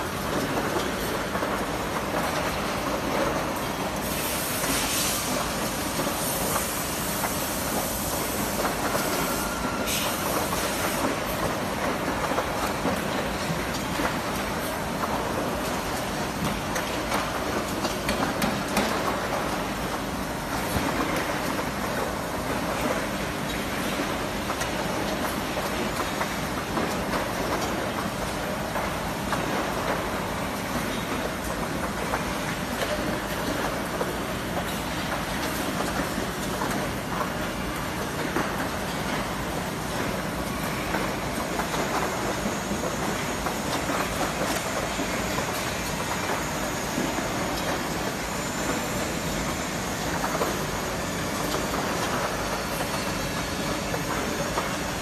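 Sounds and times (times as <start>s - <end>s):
machinery whir and hum: 0.0s - 55.0s.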